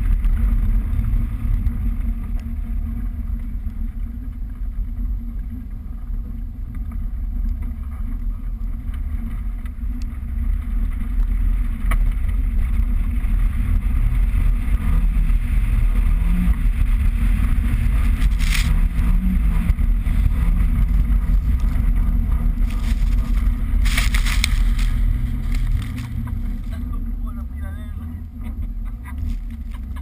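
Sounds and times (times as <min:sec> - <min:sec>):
car engine rumble: 0:00.0 - 0:30.0
wind on microphone: 0:00.0 - 0:30.0.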